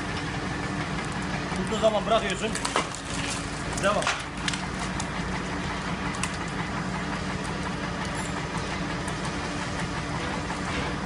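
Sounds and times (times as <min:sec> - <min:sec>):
engine hum: 0:00.0 - 0:11.0
log splitter cone boring into log: 0:00.0 - 0:11.0.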